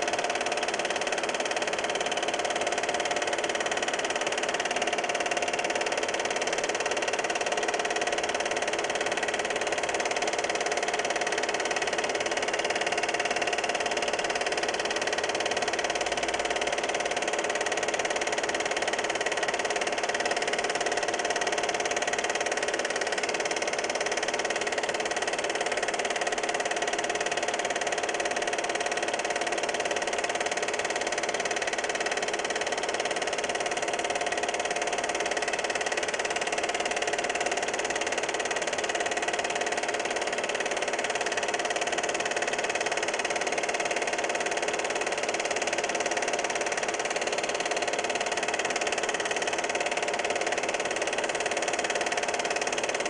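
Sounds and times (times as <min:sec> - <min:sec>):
film projector whirring: 0:00.0 - 0:53.0.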